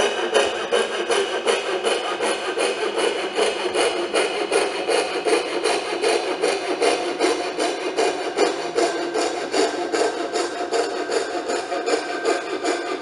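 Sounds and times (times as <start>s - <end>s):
saw cutting wood: 0.0s - 13.0s.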